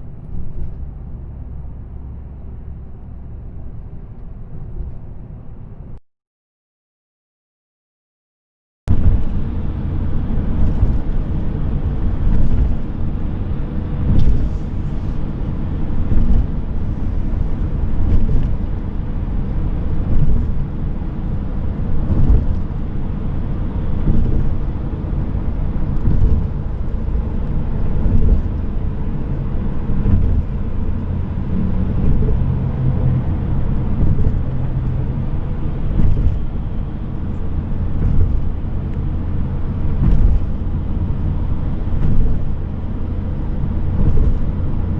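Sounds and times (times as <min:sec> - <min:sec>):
car engine and tyres rumbling: 0:00.0 - 0:06.0, 0:08.9 - 0:44.9.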